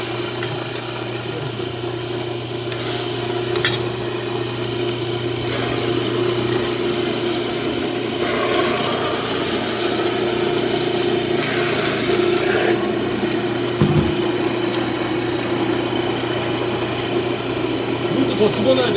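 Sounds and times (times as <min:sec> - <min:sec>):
grinder motor hum: 0:00.0 - 0:18.9.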